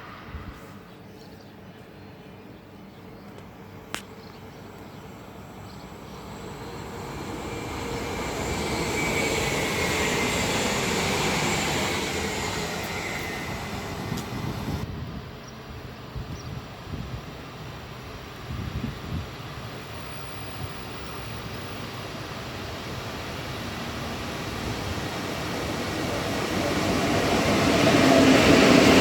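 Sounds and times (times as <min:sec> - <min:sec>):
train passing: 0:00.0 - 0:01.2, 0:04.4 - 0:29.0.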